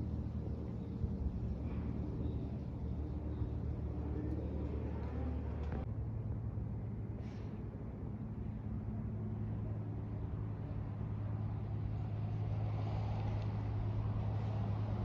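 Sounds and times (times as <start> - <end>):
aircraft engine drone overhead: 0.0 - 15.0.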